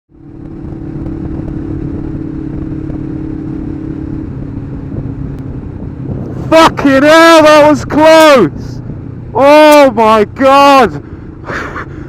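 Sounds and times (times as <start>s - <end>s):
motorcycle engine cruising: 0.1s - 12.0s
wind and road noise: 0.1s - 12.0s.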